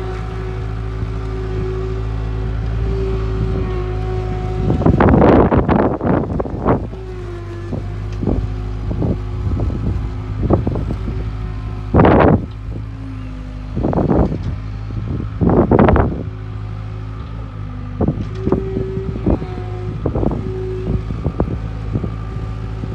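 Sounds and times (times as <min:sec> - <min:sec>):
diesel engine running: 0:00.0 - 0:22.9
wind buffeting microphone: 0:00.0 - 0:22.9.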